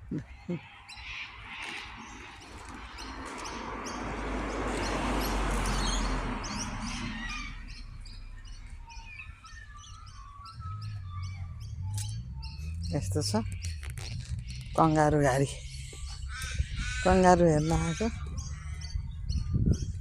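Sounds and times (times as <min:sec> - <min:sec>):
small birds chirping: 0:00.0 - 0:20.0
rushing noise with low rumble: 0:01.3 - 0:20.0.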